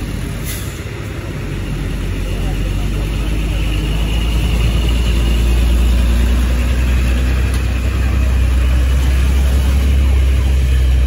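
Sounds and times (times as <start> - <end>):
heavy diesel truck engine: 0.0 - 11.0.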